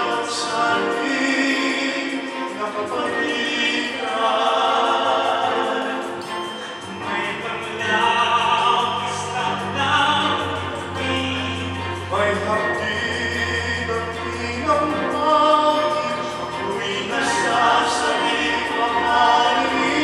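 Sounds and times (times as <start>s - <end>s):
male vocal group singing in harmony: 0.0s - 20.0s.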